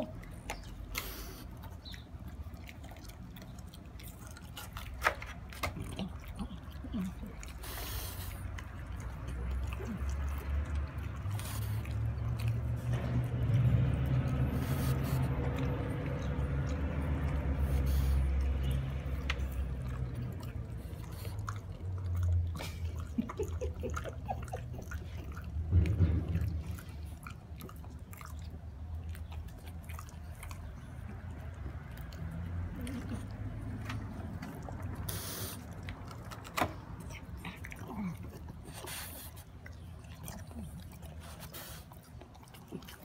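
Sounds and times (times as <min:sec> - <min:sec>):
dog chewing with wet smacking: 0:00.0 - 0:43.0.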